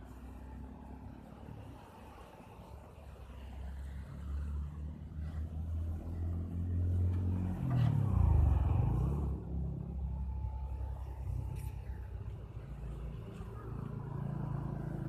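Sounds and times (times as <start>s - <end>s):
motorcycle passing: 0.0s - 15.0s.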